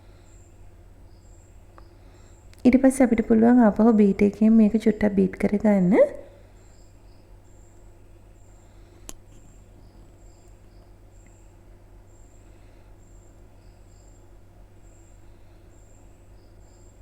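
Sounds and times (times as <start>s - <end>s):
faint insect chirping: 0.0s - 17.0s
steady low hum: 0.0s - 17.0s.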